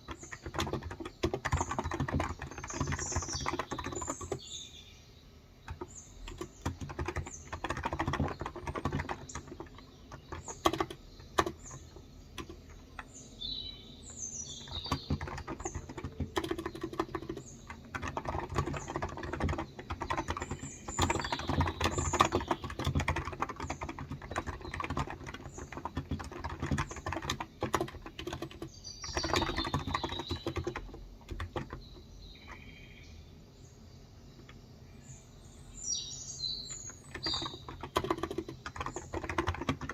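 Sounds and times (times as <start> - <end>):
keyboard typing: 0.0 - 4.5, 5.7 - 13.4, 14.5 - 32.8, 36.7 - 39.9
birds chirping: 0.0 - 39.9.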